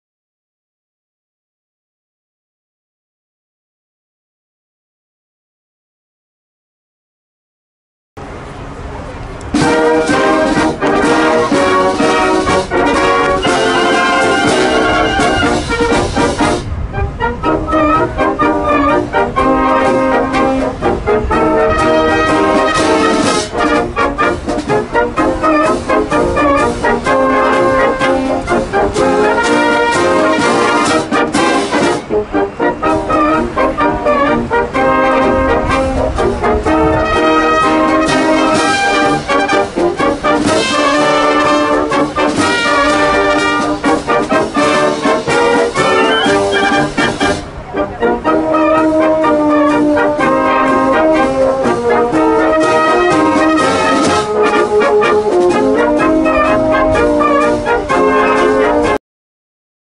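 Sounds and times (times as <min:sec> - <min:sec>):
military wind band playing: 0:08.2 - 0:59.0.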